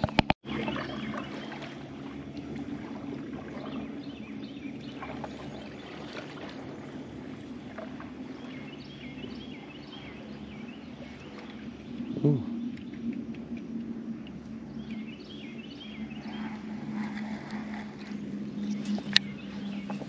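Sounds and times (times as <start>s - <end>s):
boat motor humming: 0.0s - 20.0s
faint water noise: 0.0s - 20.0s.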